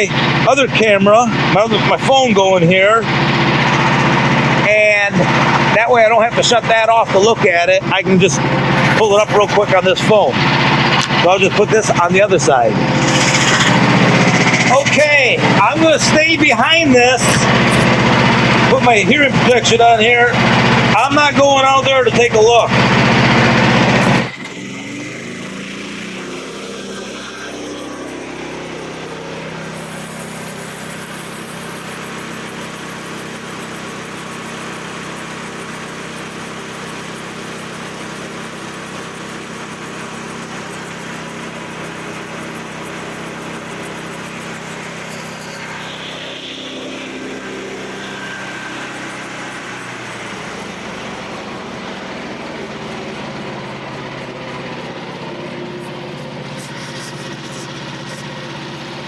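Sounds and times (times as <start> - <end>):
band sawmill engine drone: 0.0 - 59.0.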